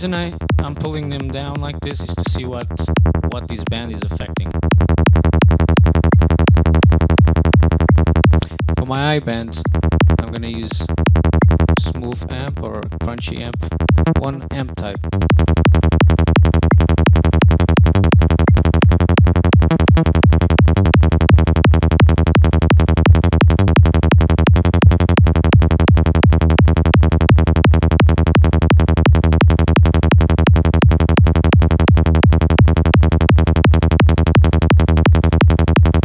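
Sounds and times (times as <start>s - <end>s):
distorted synth bass pulsing: 0.0s - 36.0s.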